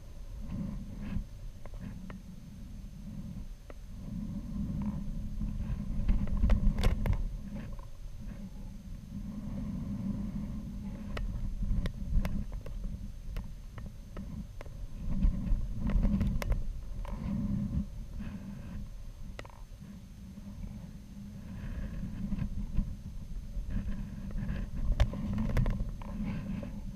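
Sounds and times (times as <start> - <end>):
faint high whine: 0.0 - 26.9
low uneven rumble: 0.0 - 26.9.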